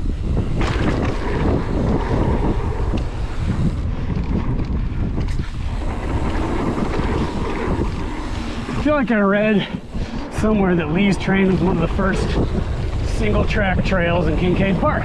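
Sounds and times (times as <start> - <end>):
bike rattling on dirt trail: 0.0 - 15.0
wind buffeting microphone: 0.0 - 15.0.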